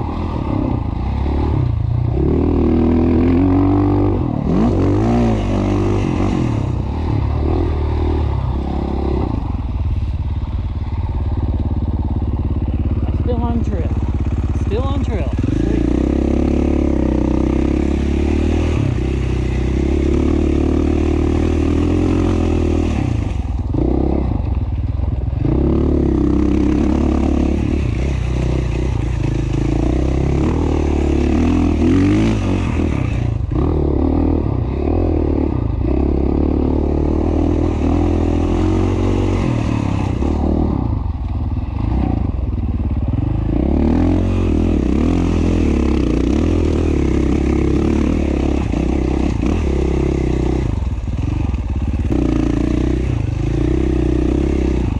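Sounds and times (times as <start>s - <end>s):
dirt bike engine revving: 0.0s - 10.2s, 10.8s - 24.4s, 25.4s - 54.9s.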